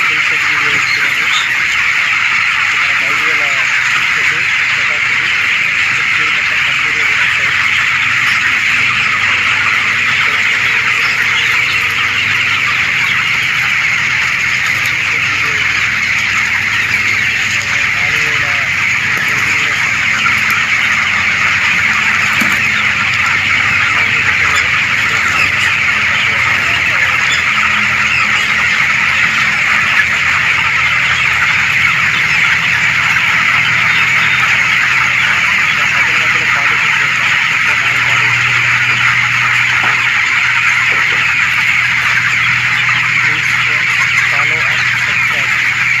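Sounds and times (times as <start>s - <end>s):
flock of chickens chirping: 0.0s - 46.0s.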